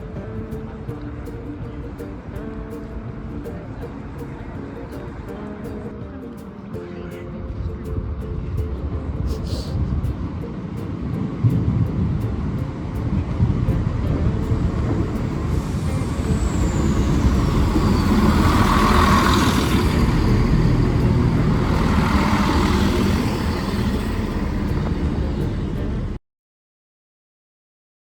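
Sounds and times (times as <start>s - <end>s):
road traffic rumble: 0.0s - 26.2s
vehicles passing: 0.0s - 26.2s.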